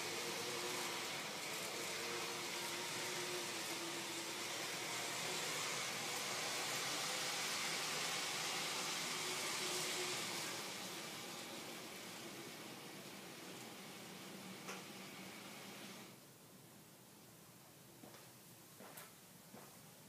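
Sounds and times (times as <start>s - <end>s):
model train whirring on track: 0.0s - 16.2s.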